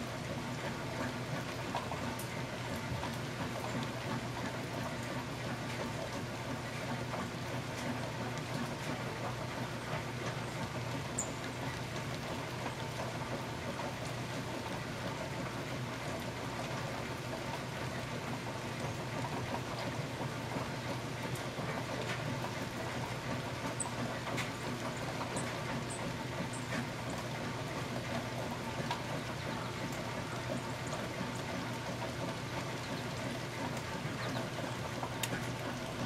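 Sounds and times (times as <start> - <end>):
rain falling through woodland: 0.0 - 36.0.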